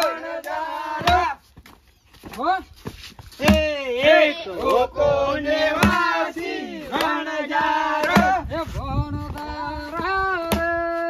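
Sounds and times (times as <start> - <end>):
men chanting in sing-song voices: 0.0 - 1.4, 3.4 - 11.0.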